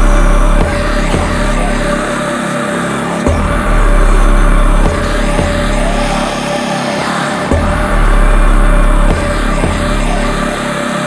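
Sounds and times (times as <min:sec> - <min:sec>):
deep sustained bass note: 0:00.0 - 0:11.0
loud electronic music: 0:00.0 - 0:11.0
steady high tone: 0:00.0 - 0:11.0.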